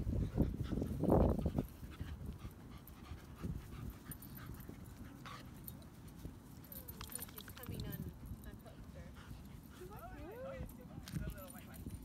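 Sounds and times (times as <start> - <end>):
dogs panting: 0.0 - 12.0
dogs sniffing on grass: 0.0 - 12.0.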